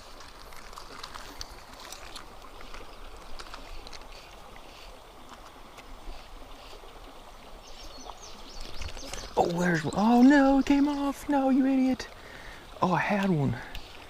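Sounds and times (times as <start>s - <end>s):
light breeze: 0.0s - 14.0s
river water hissing: 0.0s - 14.0s.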